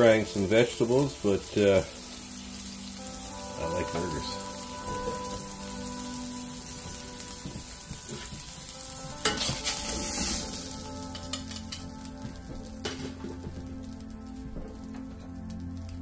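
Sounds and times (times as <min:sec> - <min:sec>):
burger patties sizzling: 0:00.0 - 0:16.0.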